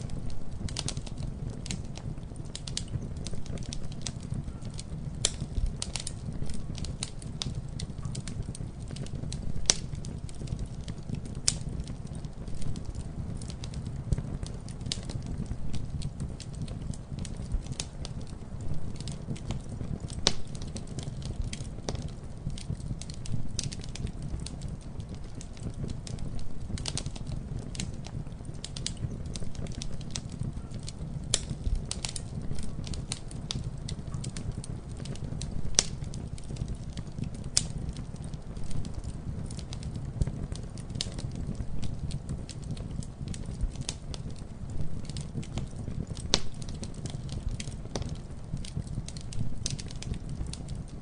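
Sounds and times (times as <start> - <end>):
sharp pops of fire: 0.0 - 51.0
wood fire crackling: 0.0 - 51.0.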